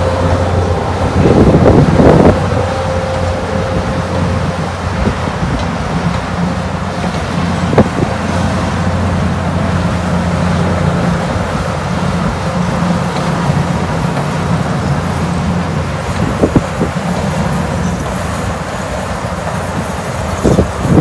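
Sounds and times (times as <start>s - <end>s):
railway cars rolling past: 0.0s - 21.0s.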